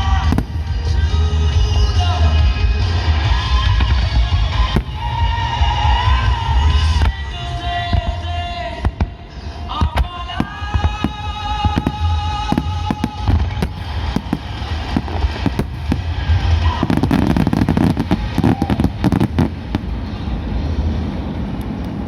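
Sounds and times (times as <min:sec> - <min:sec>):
deep rolling rumble: 0:00.0 - 0:22.0
fireworks bangs and crackles: 0:00.0 - 0:22.0.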